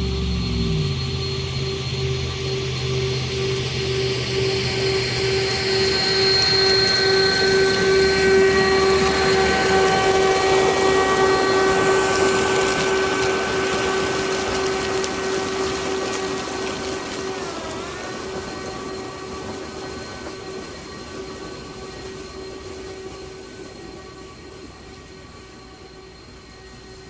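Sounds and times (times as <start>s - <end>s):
leaf blowers whining: 0.0s - 27.0s.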